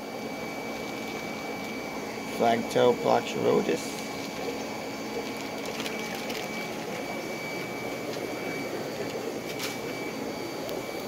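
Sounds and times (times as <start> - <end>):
aquarium pumps humming: 0.0 - 11.0
high-pitched whine: 0.0 - 11.0.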